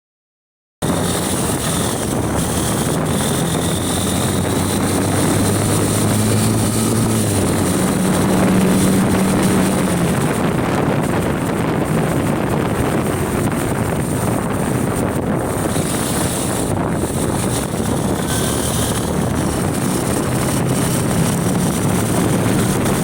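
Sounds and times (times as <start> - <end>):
motorcycle engine humming: 0.8 - 23.0
wind rushing over microphone: 0.8 - 23.0.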